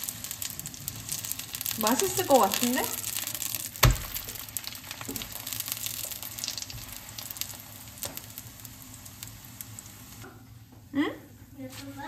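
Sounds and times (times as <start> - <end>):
pancake sizzling in oil: 0.0 - 10.3.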